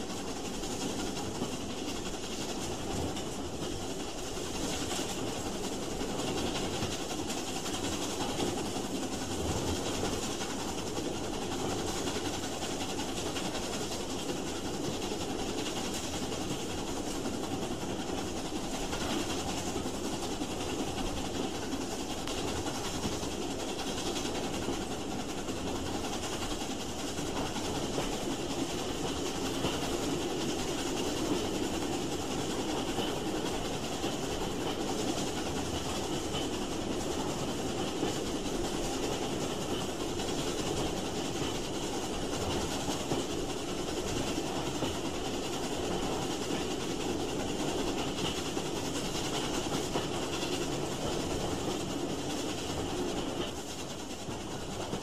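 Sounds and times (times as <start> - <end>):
train rolling along track: 0.0 - 55.0.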